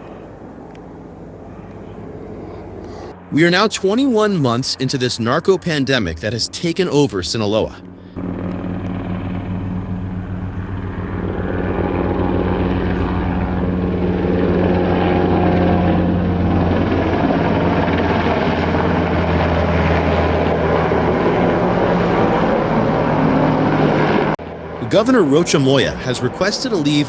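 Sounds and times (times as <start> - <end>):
helicopter flying overhead: 0.0 - 27.0.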